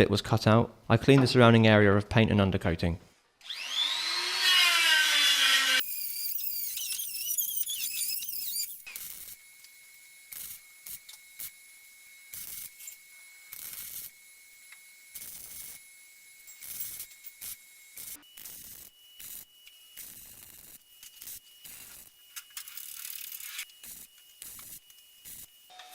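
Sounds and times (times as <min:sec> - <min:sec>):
power tool whining on metal: 0:03.4 - 0:25.9.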